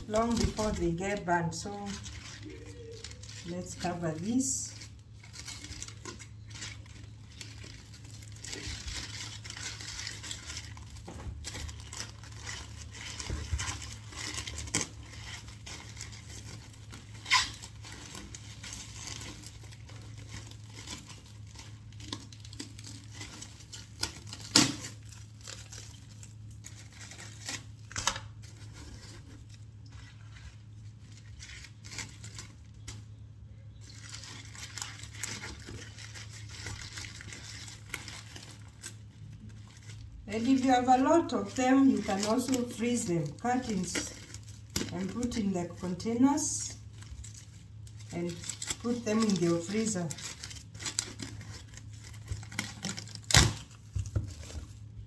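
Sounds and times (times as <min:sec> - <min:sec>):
cling film crinkling and tearing: 0:00.0 - 0:55.0.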